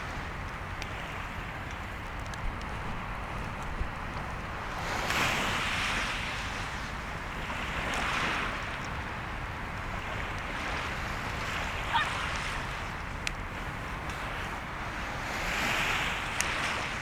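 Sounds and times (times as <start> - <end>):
surf washing on shore: 0.0 - 17.0
wind on microphone: 1.0 - 17.0.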